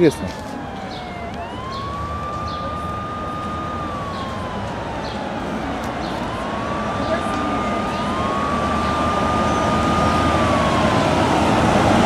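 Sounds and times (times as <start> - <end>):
siren wailing: 0.0 - 12.0
street traffic hum: 0.0 - 12.0.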